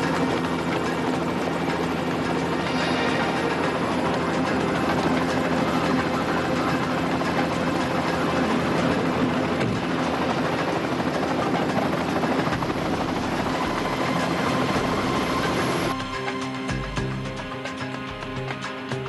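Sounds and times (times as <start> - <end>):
helicopter in flight: 0.0 - 19.0.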